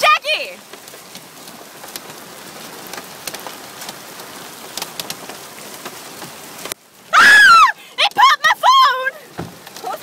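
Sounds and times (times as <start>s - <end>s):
hailstones ticking: 0.0s - 10.0s
rain hiss: 0.0s - 10.0s.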